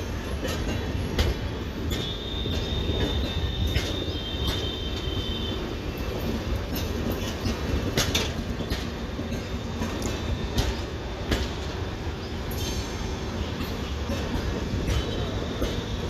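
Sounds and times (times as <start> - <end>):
train wheels rumbling on rails: 0.0 - 16.0
wheels clacking over rail joints: 0.0 - 16.0.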